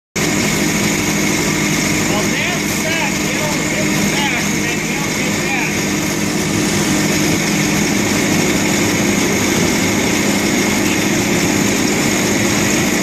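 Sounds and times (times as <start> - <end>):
skid steer engine running: 0.2 - 13.0.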